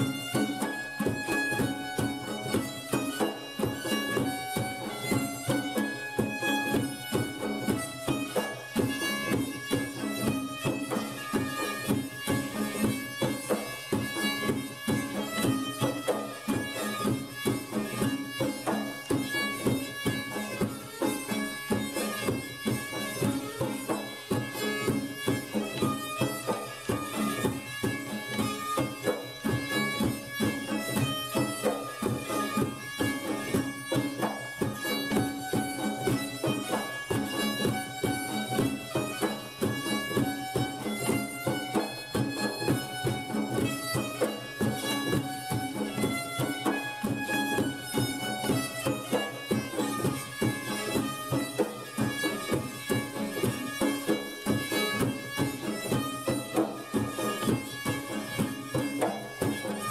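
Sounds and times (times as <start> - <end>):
instrumental folk music: 0.0 - 59.9.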